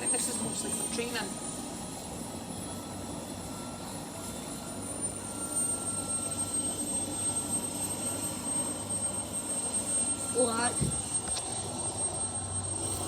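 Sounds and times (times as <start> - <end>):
aircraft engine running: 0.0 - 13.0
thin high whine: 0.0 - 13.0.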